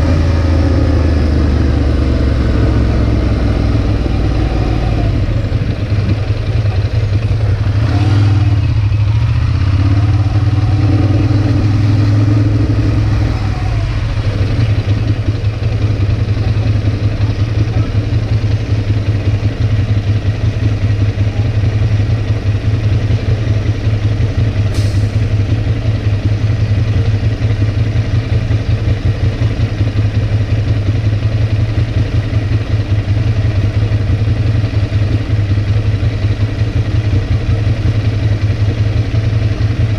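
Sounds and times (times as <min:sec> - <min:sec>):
motorcycle engine slowing and idling: 0:00.0 - 0:39.9.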